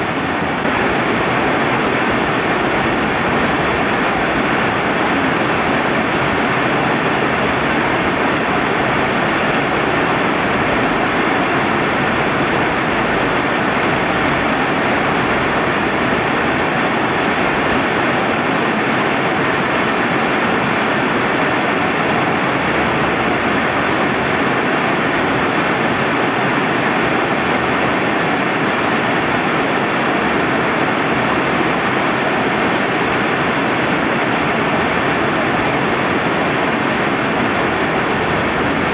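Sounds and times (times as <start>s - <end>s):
flowing river: 0.0s - 38.9s
rain falling: 0.0s - 38.9s.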